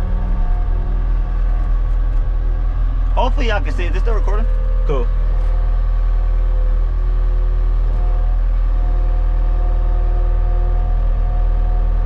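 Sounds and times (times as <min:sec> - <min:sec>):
engine running from inside cab: 0:00.0 - 0:12.0.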